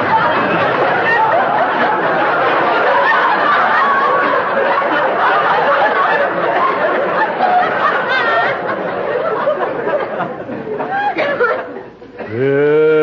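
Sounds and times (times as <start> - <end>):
studio audience laughing: 0.0 - 12.4.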